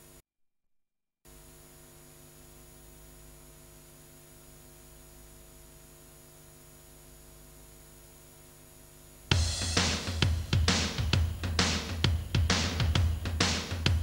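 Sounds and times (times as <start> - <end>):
electrical hum: 1.3 - 14.0.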